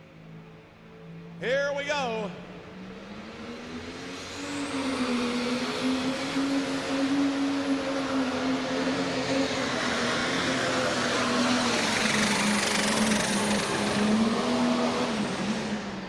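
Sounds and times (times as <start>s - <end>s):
diesel engine running hard: 2.7s - 16.0s.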